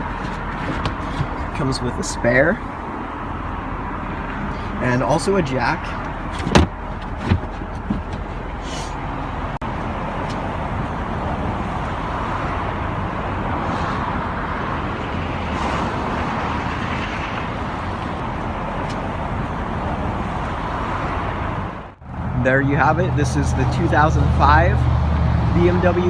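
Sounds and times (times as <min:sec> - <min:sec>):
motor vehicle noise: 0:00.0 - 0:26.0.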